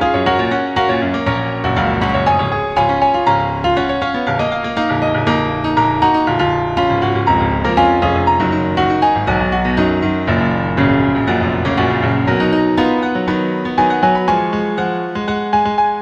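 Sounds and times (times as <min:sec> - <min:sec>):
piano note clusters: 0:00.0 - 0:16.0.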